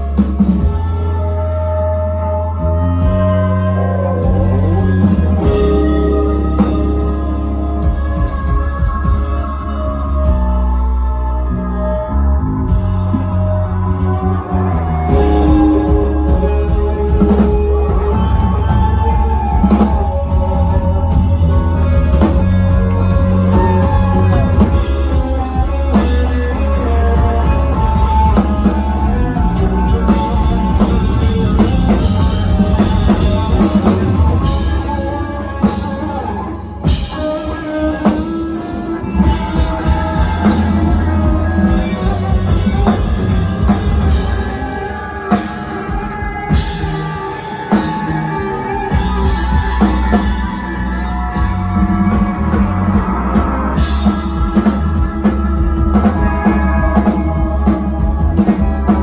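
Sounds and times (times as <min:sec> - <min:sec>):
drum kit: 0:00.0 - 0:11.1, 0:12.6 - 0:59.0
bass guitar: 0:00.0 - 0:59.0
guitars: 0:00.0 - 0:59.0.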